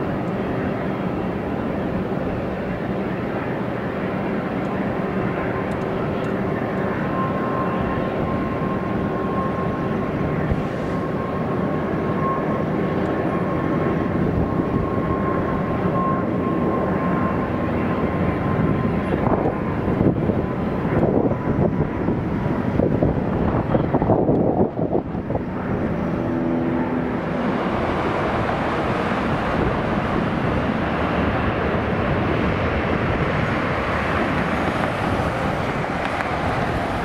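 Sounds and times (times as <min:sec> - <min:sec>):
jet engines at takeoff thrust: 0:00.0 - 0:37.0.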